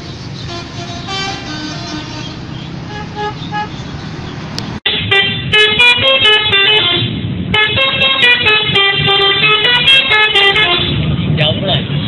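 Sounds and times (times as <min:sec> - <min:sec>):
bus horn playing a fast tune: 0:00.4 - 0:03.8, 0:04.8 - 0:11.0.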